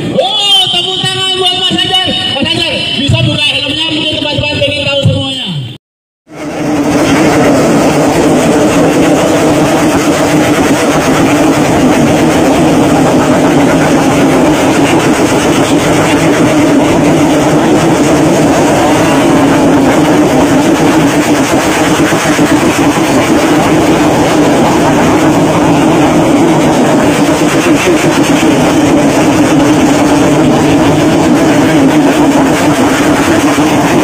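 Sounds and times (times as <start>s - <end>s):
motorcycles revving: 6.3s - 34.0s.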